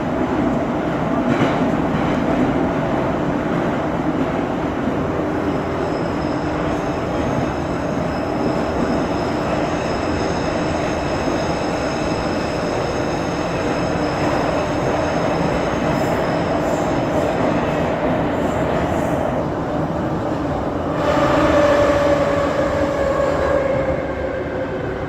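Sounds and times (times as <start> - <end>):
metro train rumbling in tunnel: 0.0 - 25.0.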